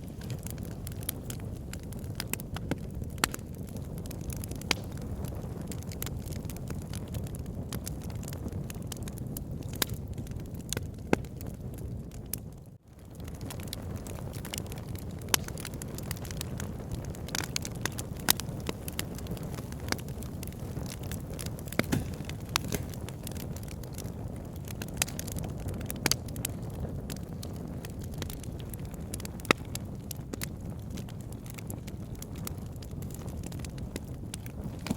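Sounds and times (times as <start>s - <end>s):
fire rumbling: 0.0s - 34.9s
wood crackling and popping: 0.0s - 34.9s.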